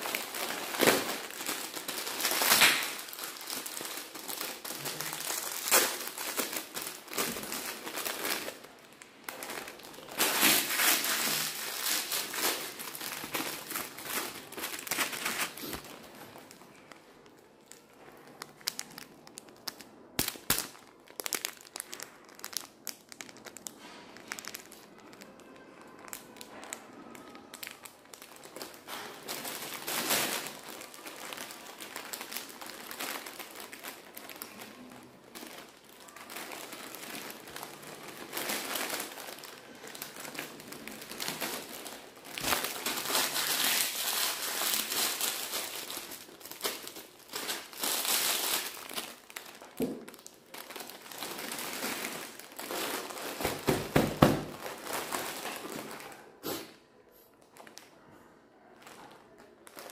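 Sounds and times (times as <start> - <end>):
plastic wrappers crinkling: 0.0 - 56.7, 57.4 - 59.9.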